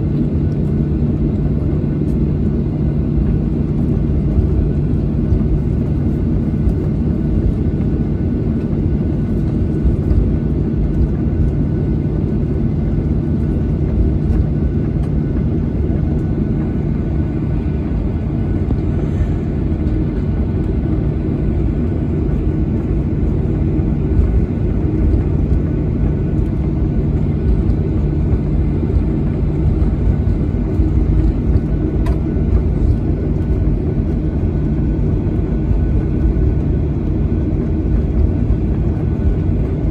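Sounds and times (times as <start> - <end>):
faint constant hum: 0.0 - 39.9
jet engine cabin rumble: 0.0 - 39.9.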